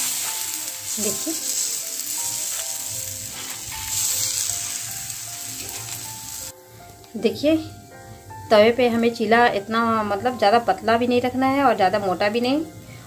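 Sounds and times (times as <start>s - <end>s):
batter sizzling in oil: 0.0s - 12.6s.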